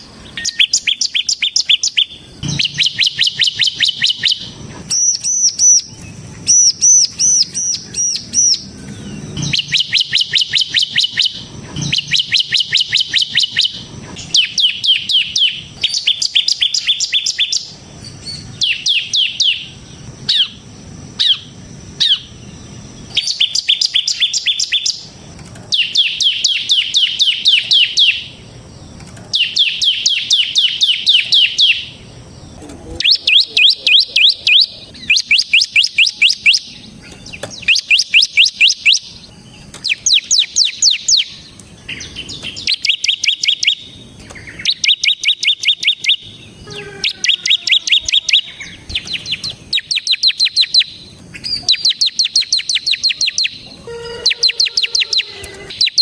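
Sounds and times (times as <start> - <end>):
bird singing rapid trills: 0.0 - 56.0.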